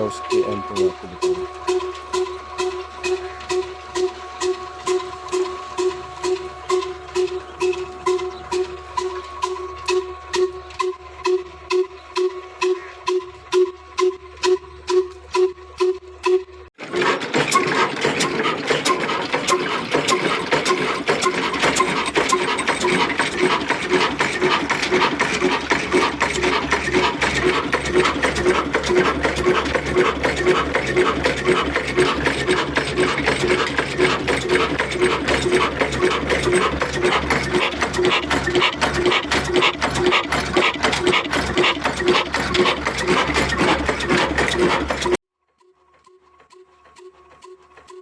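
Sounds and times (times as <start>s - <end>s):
diesel engine running: 0.0s - 45.2s.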